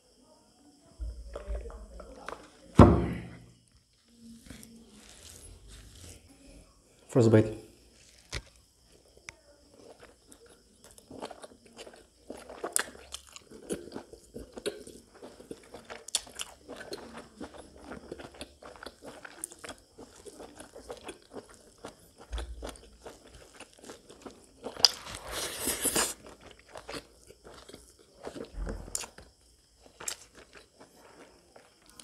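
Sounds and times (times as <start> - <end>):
person chewing food: 1.2 - 2.7, 3.5 - 6.3, 7.9 - 32.0.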